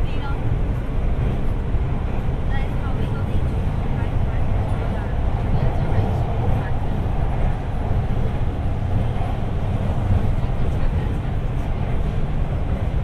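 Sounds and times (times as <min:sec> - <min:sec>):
subway train rumble in tunnel: 0:00.0 - 0:13.0.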